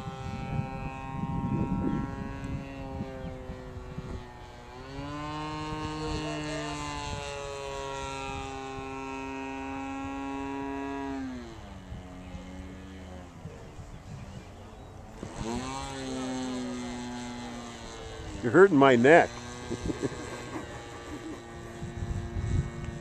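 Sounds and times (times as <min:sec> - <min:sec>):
model plane engine buzzing: 0:00.0 - 0:23.0.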